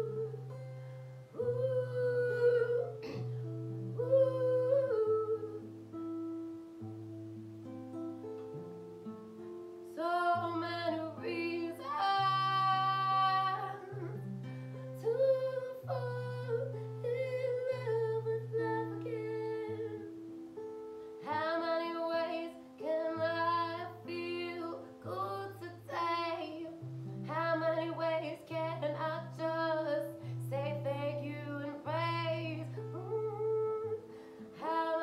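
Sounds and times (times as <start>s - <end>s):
woman singing slow song: 0.0s - 6.4s, 9.8s - 20.5s, 21.1s - 35.0s
guitar accompaniment: 0.0s - 35.0s.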